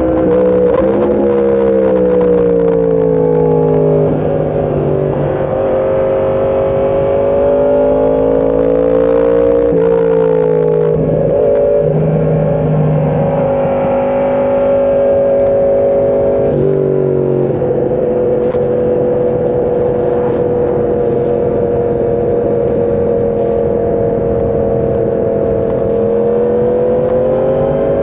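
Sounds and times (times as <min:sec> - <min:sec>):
motorcycle engine running hard: 0:00.0 - 0:28.0.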